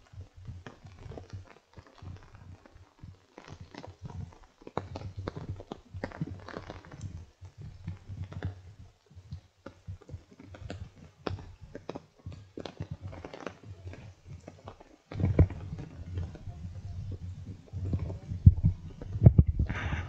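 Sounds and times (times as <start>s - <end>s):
raindrops tapping on umbrella: 0.0s - 20.0s.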